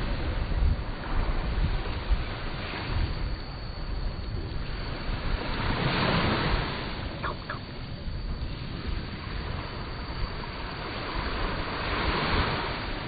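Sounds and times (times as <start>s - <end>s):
sea surf washing in: 0.0s - 13.0s
wind buffeting microphone: 0.0s - 13.0s.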